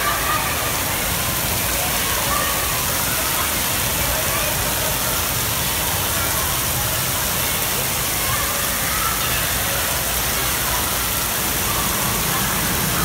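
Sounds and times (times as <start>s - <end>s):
crowd chatter: 0.0s - 13.0s
water spraying and falling: 0.0s - 13.0s.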